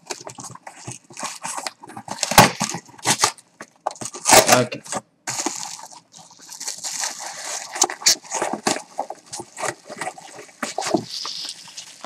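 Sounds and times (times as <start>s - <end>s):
packaging torn and crinkled: 0.0s - 12.0s.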